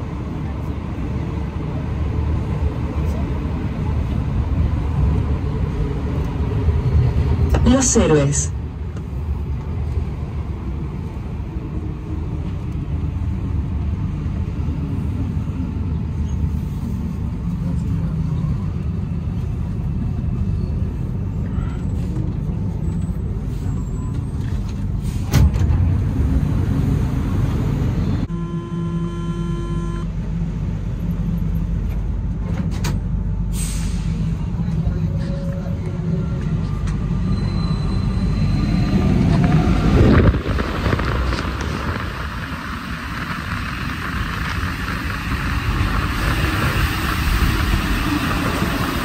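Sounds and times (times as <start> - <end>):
metro car rumble: 0.0 - 49.0.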